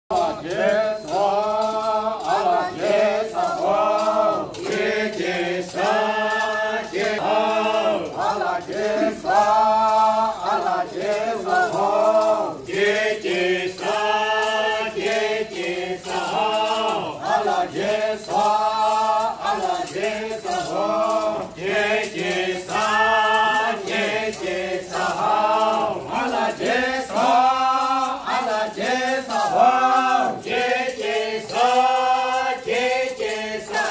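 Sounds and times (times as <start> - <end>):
group singing a folk chant: 0.1 - 33.9.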